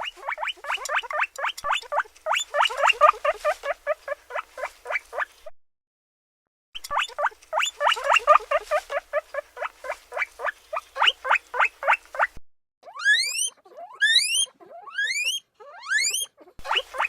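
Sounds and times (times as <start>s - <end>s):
guinea pig squeaking: 0.0s - 5.4s, 6.8s - 17.0s.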